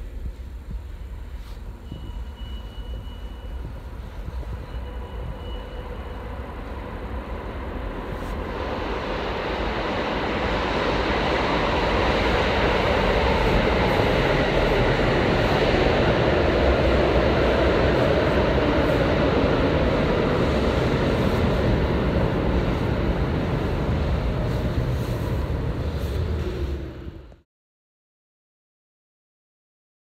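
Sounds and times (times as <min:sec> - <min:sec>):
subway train rumbling: 0:00.0 - 0:27.4.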